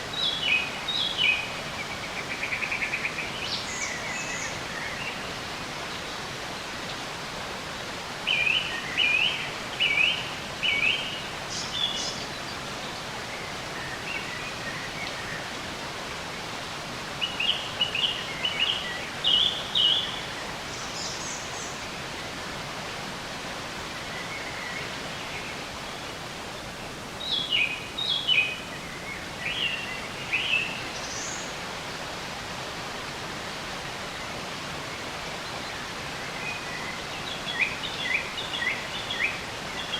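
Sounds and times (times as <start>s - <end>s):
songbirds chirping: 0.0s - 39.9s
steady even hiss: 0.0s - 39.9s.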